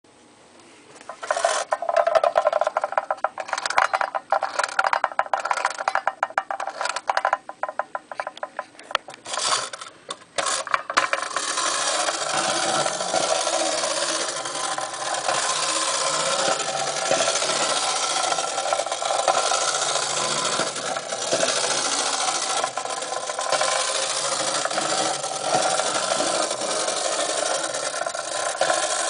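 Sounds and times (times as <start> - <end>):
tin car moving on tin tray: 1.0 - 29.0
clockwork motor whirring: 1.1 - 7.8, 9.1 - 29.0
wind-up toy ratcheting clicks: 1.2 - 29.0.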